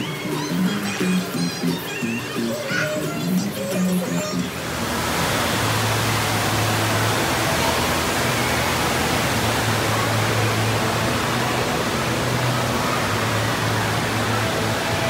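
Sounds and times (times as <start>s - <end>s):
rushing roar of water: 2.6s - 15.0s.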